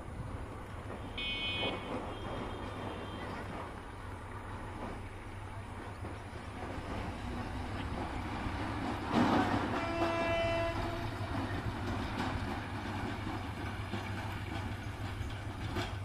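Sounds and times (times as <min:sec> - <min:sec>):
light wind: 0:00.0 - 0:16.0.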